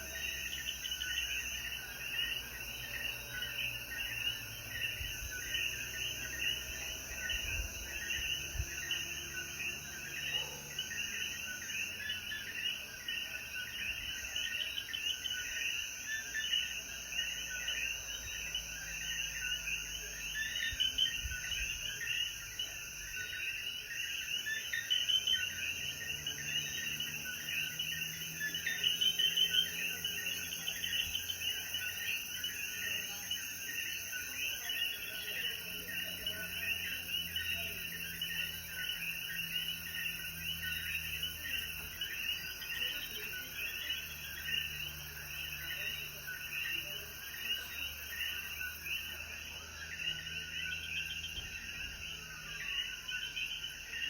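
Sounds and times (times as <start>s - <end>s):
frogs chirping chorus: 0.0s - 54.0s.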